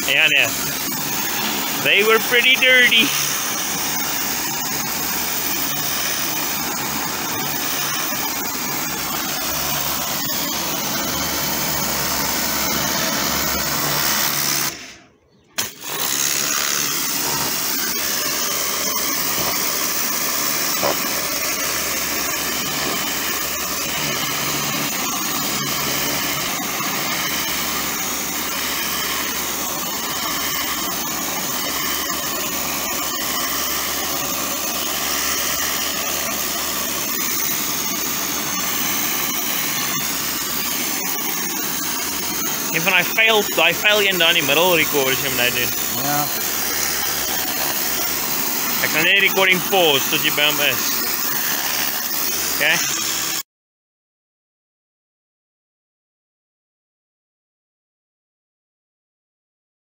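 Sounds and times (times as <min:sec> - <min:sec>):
pressure washer spraying water: 0:00.0 - 0:15.0, 0:15.6 - 0:53.4.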